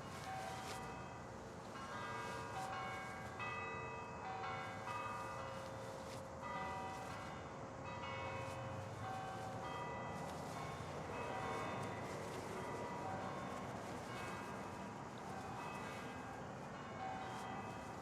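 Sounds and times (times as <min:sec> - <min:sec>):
bells ringing: 0:00.0 - 0:18.0.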